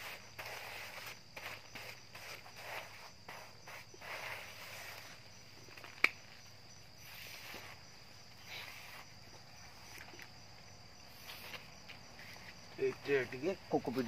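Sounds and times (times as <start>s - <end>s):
insect chirring: 0.0s - 14.0s.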